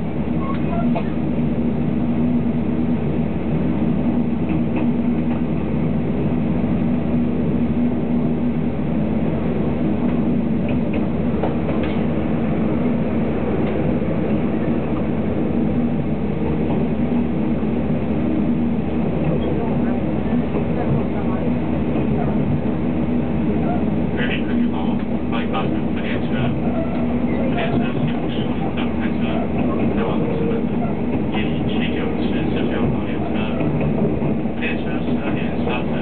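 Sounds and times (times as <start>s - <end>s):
train carriage running noise: 0.0s - 36.0s.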